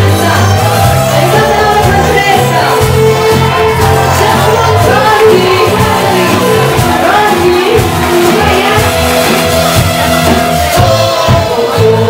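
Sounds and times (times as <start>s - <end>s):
live band playing disco-pop: 0.0s - 12.0s
person singing: 0.0s - 12.0s.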